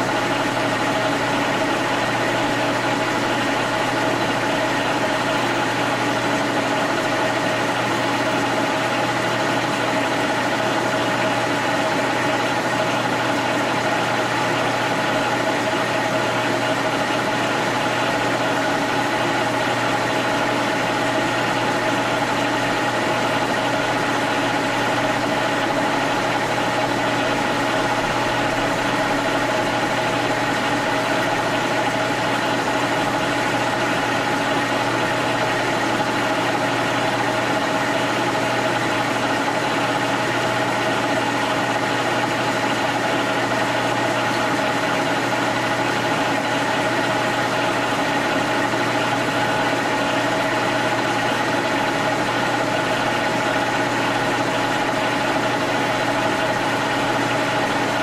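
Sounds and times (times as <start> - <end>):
milling machine motor and gear hum: 0.0 - 58.0.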